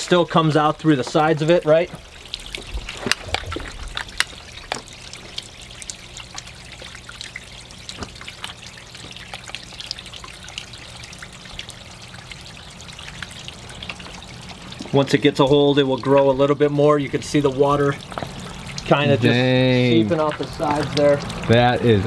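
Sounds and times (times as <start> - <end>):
fountain water trickling: 0.0 - 22.0.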